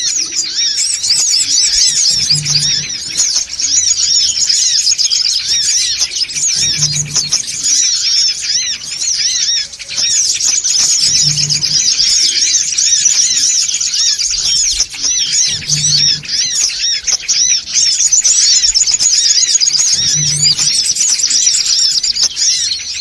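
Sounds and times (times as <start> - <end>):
sunbirds chirping: 0.0 - 23.0.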